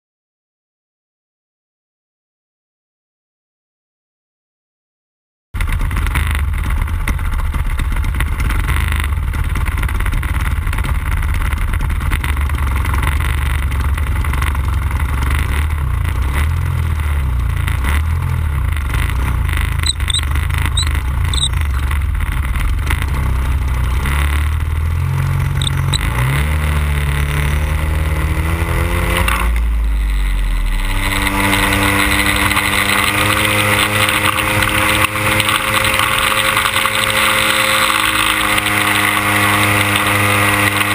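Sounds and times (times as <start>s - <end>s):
model airplane engine: 5.6s - 40.9s.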